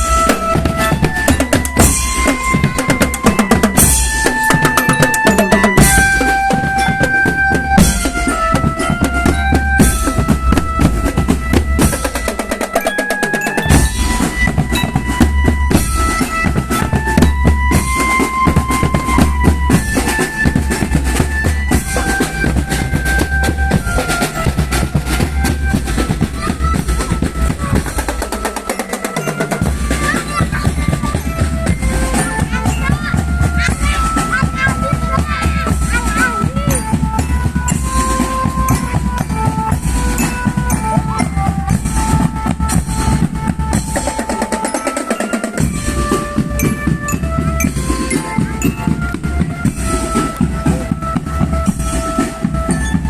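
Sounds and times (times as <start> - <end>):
marching band melody: 0.0 - 53.0
snare and bass drums: 0.0 - 53.0.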